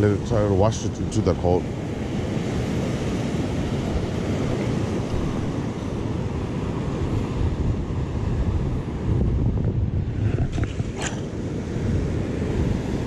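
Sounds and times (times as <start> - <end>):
surf washing over rocks: 0.0 - 13.0
wind buffeting microphone: 0.0 - 13.0.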